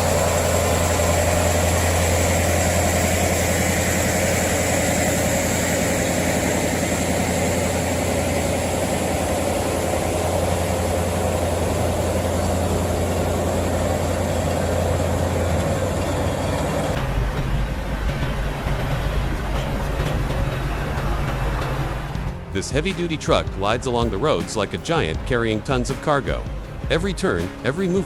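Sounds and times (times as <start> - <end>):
heavy diesel engine humming: 0.0 - 28.0.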